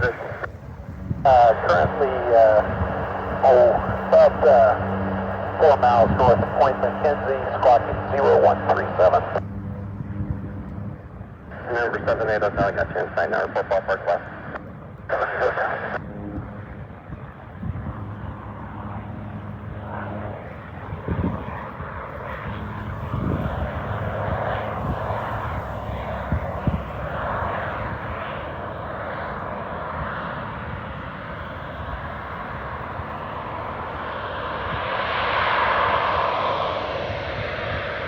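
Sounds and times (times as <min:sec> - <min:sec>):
propeller plane engine running: 0:00.0 - 0:38.0.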